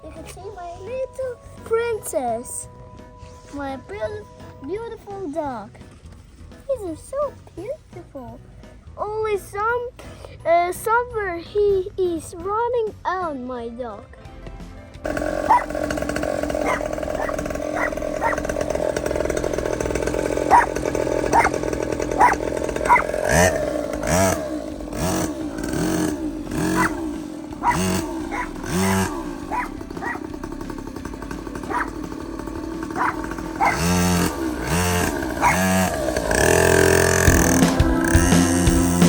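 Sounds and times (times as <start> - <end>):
small engine revving: 0.0 - 8.4, 15.0 - 39.0.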